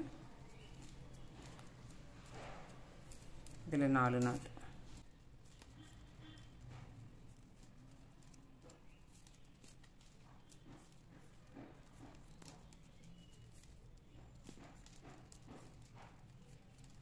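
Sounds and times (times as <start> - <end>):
plastic wire clicking and rustling: 0.0 - 17.0.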